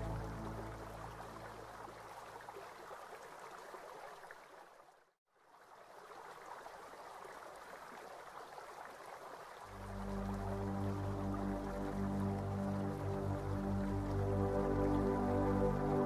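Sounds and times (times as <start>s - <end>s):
faint running water: 0.0s - 16.0s.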